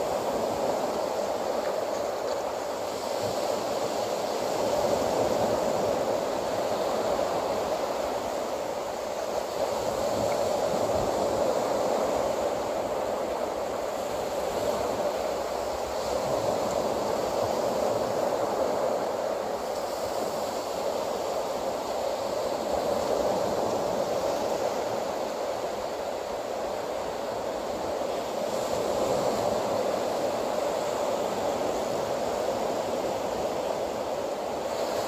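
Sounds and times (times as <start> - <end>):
surf washing onto beach: 0.0 - 35.0
wind on microphone: 0.0 - 35.0.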